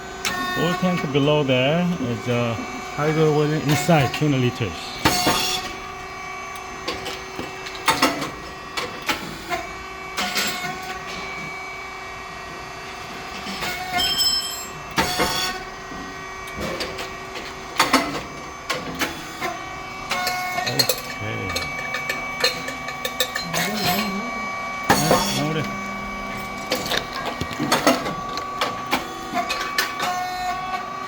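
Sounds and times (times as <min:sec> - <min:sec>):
machine pump and fan humming: 0:00.0 - 0:31.0.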